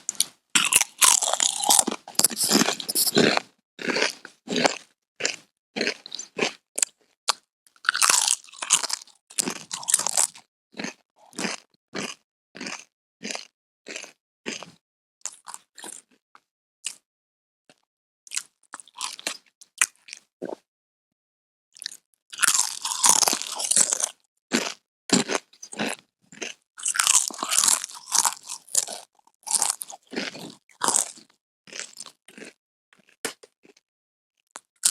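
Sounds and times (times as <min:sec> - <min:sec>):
chips crunching while chewed: 0:00.1 - 0:16.2, 0:17.7 - 0:20.6, 0:21.8 - 0:33.8, 0:34.4 - 0:34.9.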